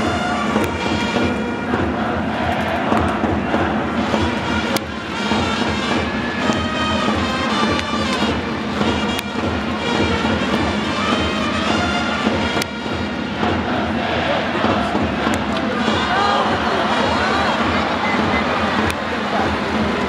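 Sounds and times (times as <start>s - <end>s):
trumpets playing fight song: 0.0s - 2.8s, 3.5s - 14.9s, 15.7s - 18.6s
stadium crowd din: 0.0s - 20.0s.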